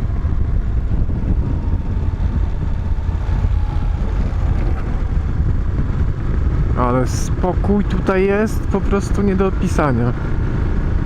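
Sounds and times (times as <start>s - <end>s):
motorcycle engine drone: 0.0s - 11.0s
wind rushing over microphone: 0.0s - 11.0s.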